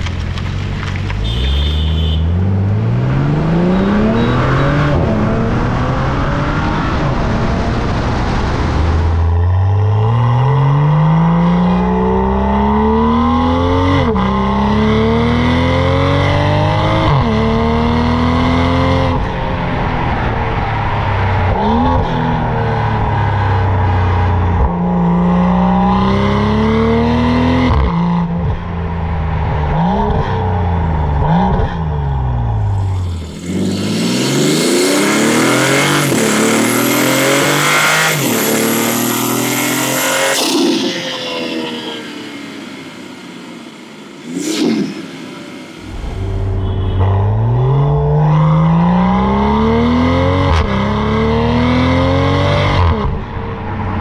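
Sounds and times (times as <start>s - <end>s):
car engine accelerating through gears: 1.1s - 54.0s.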